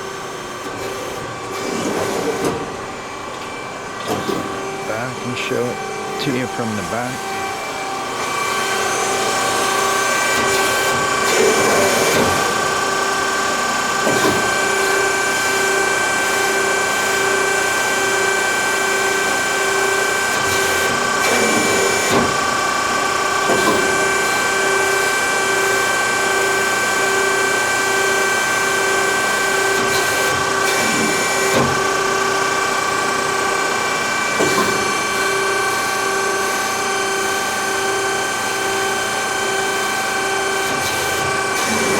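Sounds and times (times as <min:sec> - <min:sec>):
hydraulic press brake running: 0:00.0 - 0:41.9.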